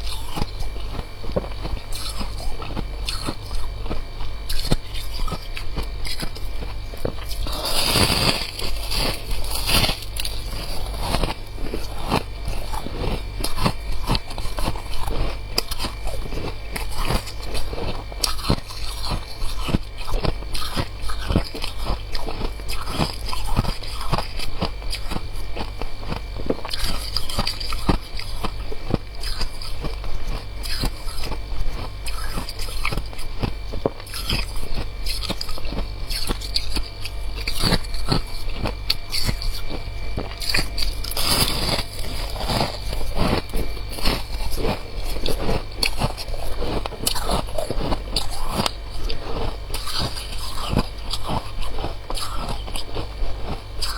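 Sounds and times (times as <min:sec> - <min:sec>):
chewing crunchy frost: 0:00.0 - 0:53.9
steady low hum: 0:00.0 - 0:53.9.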